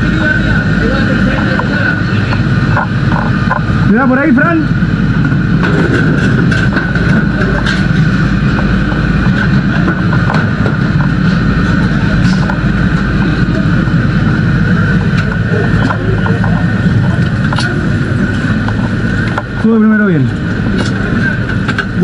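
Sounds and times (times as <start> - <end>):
engine droning with whine: 0.0 - 22.0.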